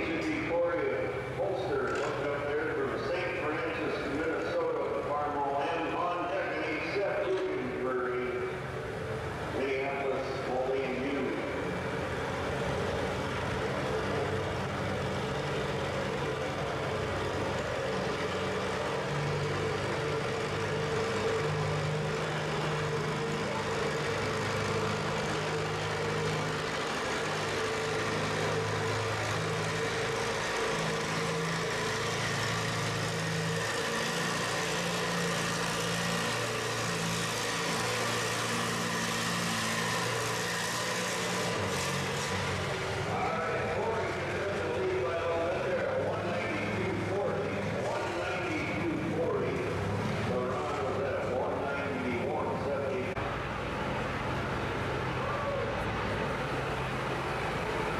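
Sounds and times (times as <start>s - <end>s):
tractor engine under load: 0.0s - 57.9s.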